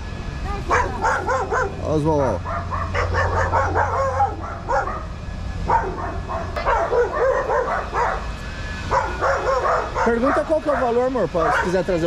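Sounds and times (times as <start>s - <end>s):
dogs barking and yipping: 0.5s - 12.0s.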